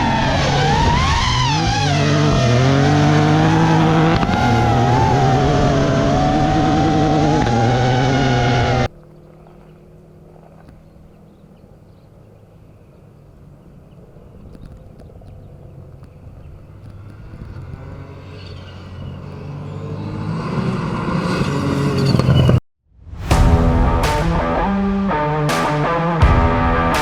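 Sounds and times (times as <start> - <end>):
rally car engine approaching: 0.0 - 22.6.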